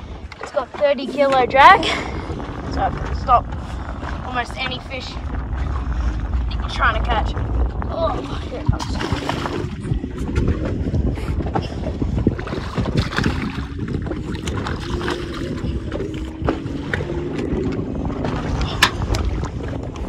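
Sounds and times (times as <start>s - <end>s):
boat motor hum: 0.0s - 20.0s
wind buffeting microphone: 0.0s - 20.0s.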